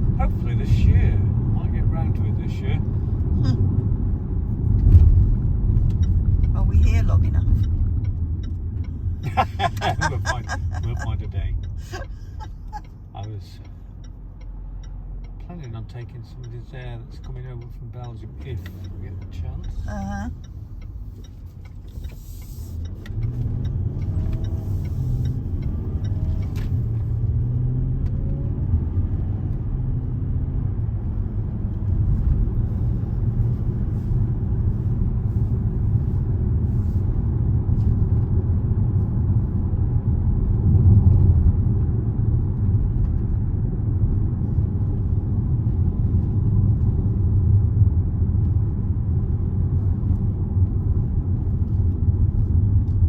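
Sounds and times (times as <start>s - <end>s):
road and engine rumble in car: 0.0s - 53.0s.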